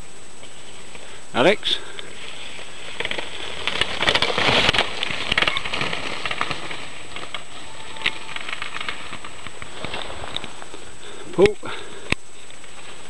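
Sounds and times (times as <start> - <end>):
bike tyres crackling over dirt: 0.0 - 13.0
bike rattling: 1.8 - 13.0.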